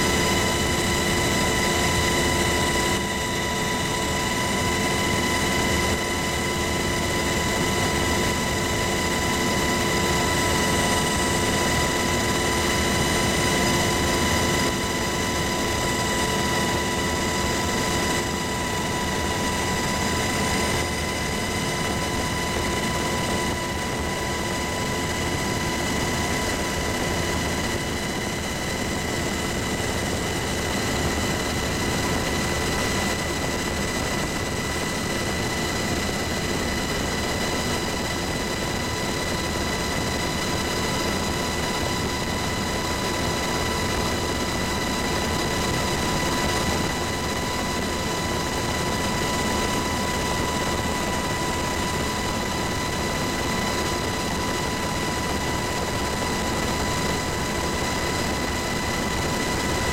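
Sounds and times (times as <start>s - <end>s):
helicopter rotor and engine rush: 0.0s - 59.9s.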